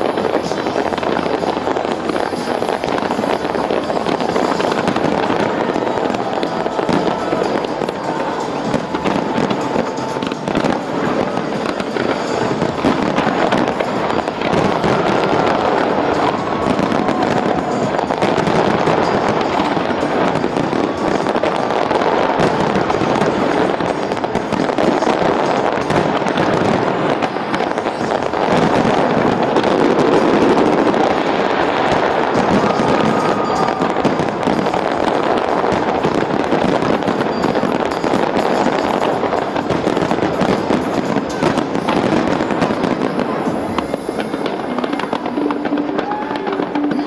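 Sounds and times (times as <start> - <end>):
fireworks bangs and crackling: 0.0 - 47.0
music: 0.0 - 47.0.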